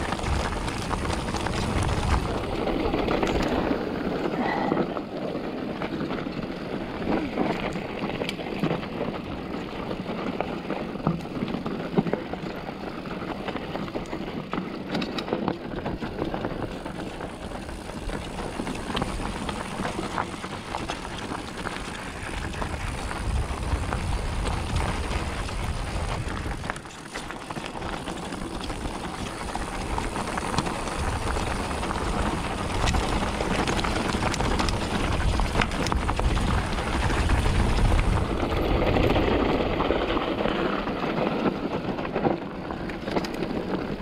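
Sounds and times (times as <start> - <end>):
bike clicks and rattles: 0.0 - 44.0
bike tyres on dirt: 0.0 - 44.0.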